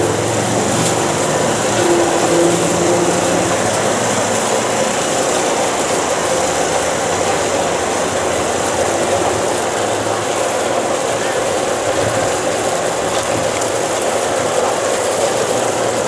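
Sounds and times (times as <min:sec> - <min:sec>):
heavy engines and machinery running: 0:00.0 - 0:16.0.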